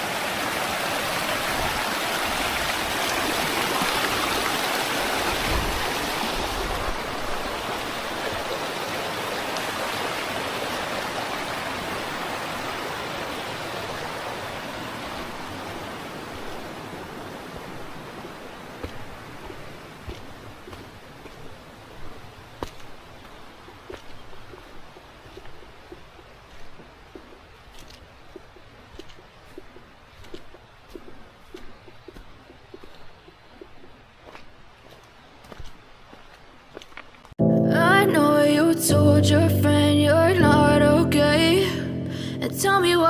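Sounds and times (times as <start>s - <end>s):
mountain stream rushing: 0.0s - 43.0s.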